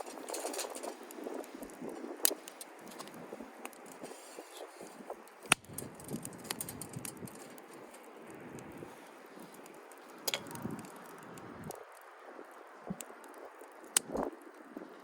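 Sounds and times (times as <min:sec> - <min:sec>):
campfire crackling: 0:00.0 - 0:15.0
fire sharp pops: 0:00.0 - 0:15.0.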